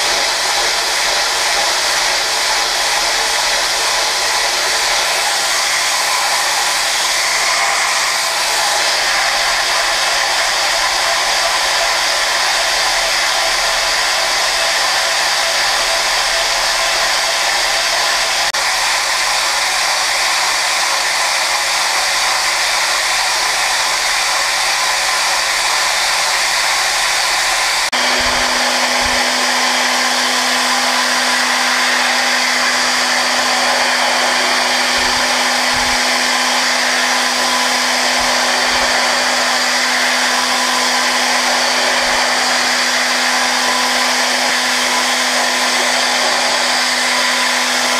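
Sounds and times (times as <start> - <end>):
milling machine cutting steel: 0.0 - 47.9.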